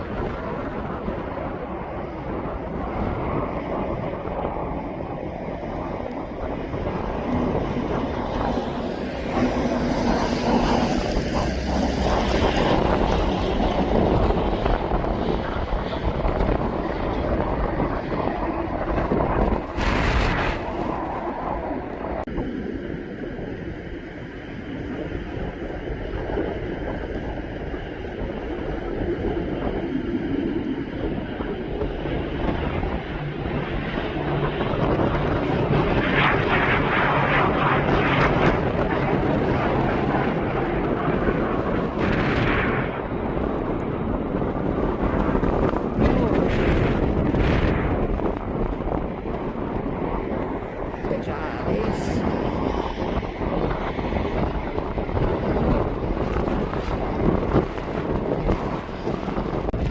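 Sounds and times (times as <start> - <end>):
aircraft engines rumbling: 0.0 - 59.9
wind buffeting microphone: 0.0 - 59.9.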